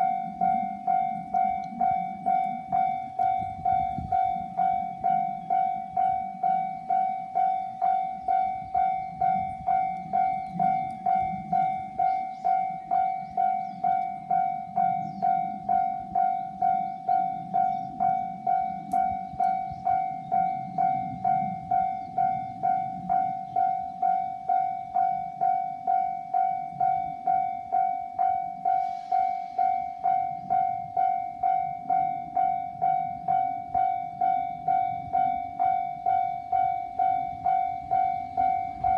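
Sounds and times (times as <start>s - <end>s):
level-crossing warning bell ringing: 0.0s - 38.9s.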